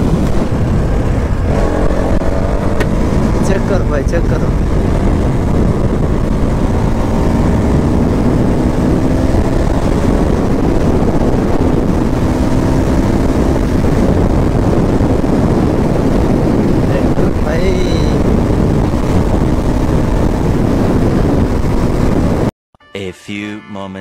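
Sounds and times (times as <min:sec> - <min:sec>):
motorcycle engine running: 0:00.0 - 0:22.5
wind buffeting microphone: 0:00.0 - 0:22.5.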